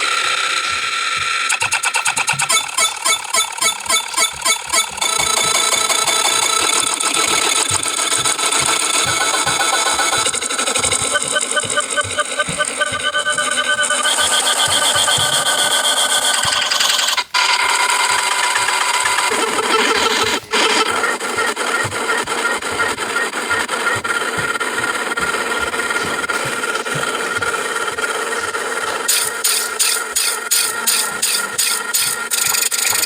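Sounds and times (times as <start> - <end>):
fast pulsing beat: 0.0 - 33.0.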